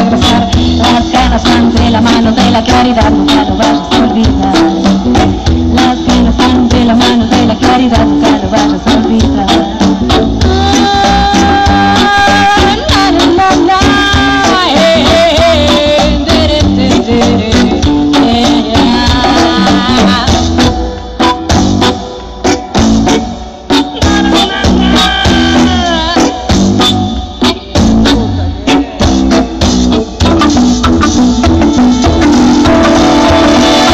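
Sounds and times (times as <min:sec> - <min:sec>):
bass: 0:00.0 - 0:33.9
bending lead melody: 0:00.0 - 0:33.9
drums: 0:00.0 - 0:33.9.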